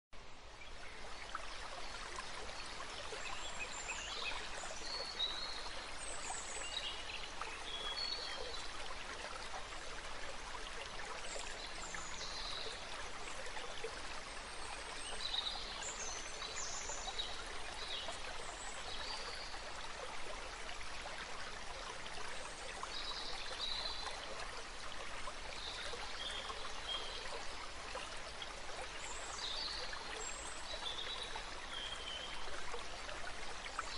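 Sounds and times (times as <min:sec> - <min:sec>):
flowing water rushing: 0:00.2 - 0:33.9.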